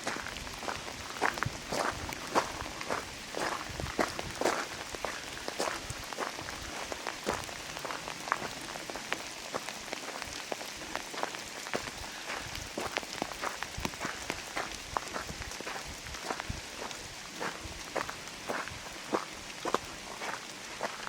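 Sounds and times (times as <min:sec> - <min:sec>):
raindrops ticking close by: 0:00.0 - 0:21.0
steady rain: 0:00.0 - 0:21.0.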